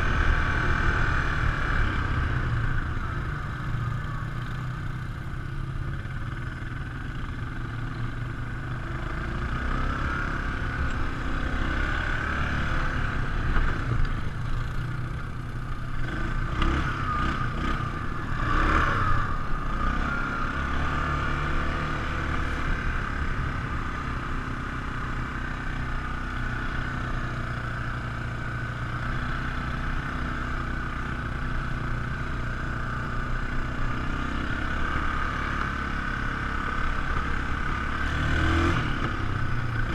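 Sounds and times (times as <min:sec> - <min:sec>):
quad engine droning: 0:00.0 - 0:39.9.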